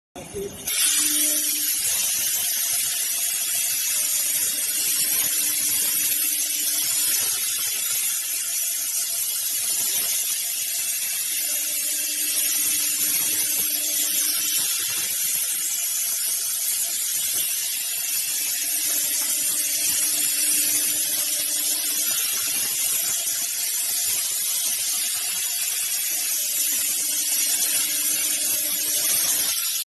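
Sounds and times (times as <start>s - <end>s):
plasma torch hissing: 0.2s - 29.9s.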